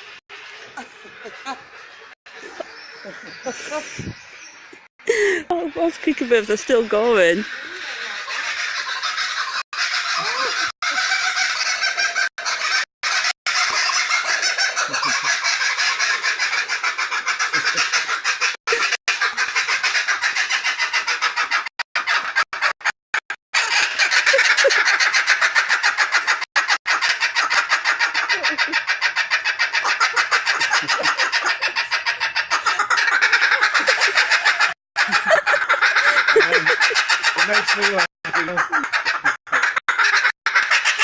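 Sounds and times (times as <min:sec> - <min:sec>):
kookaburras laughing: 0:00.5 - 0:04.2, 0:05.1 - 0:22.4, 0:23.6 - 0:41.0.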